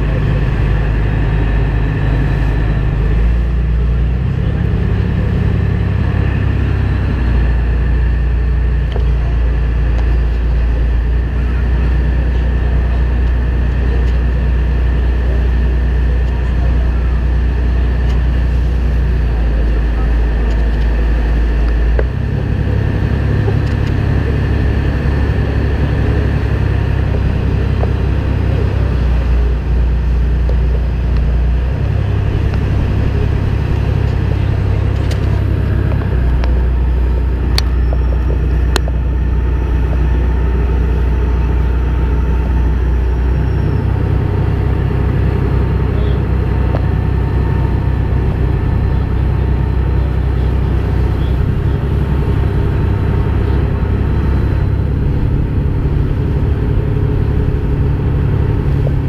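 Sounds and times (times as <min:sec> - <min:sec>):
boat engine rumbling: 0:00.0 - 0:59.0
water rushing along hull: 0:00.0 - 0:59.0.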